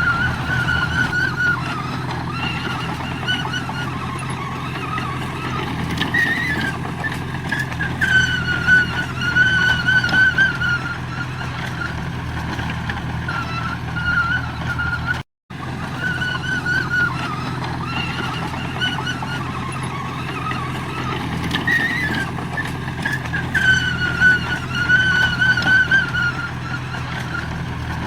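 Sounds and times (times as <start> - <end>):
diesel earthmoving machinery running: 0.0 - 28.0.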